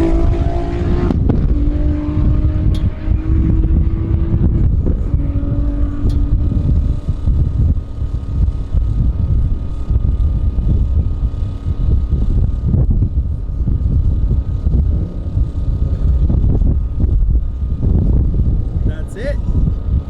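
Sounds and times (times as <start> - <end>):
low wind rumble: 0.0 - 20.0
truck engine drone: 0.0 - 20.0.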